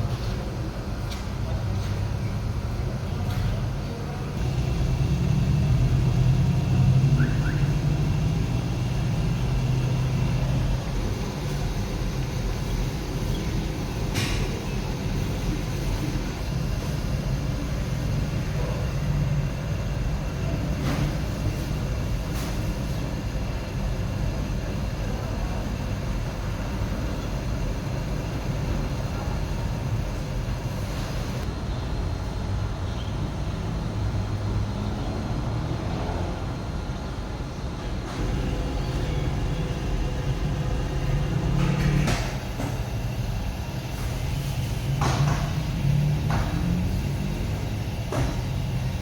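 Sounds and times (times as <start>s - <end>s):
washing machine rumbling: 0.0s - 49.0s.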